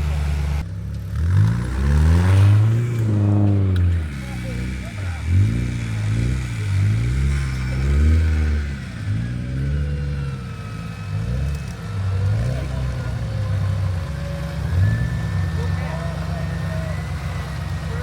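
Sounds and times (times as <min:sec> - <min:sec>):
engine revving up and down: 0:00.0 - 0:18.0.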